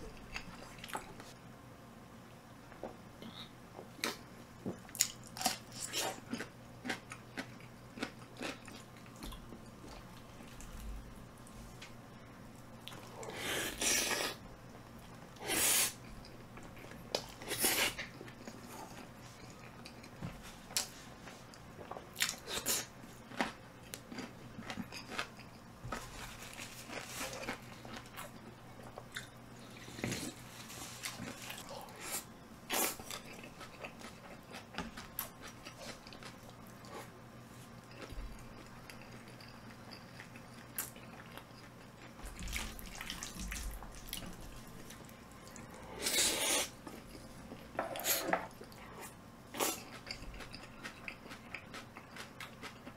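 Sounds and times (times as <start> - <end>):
person chewing food: 2.7 - 11.9, 12.8 - 52.9.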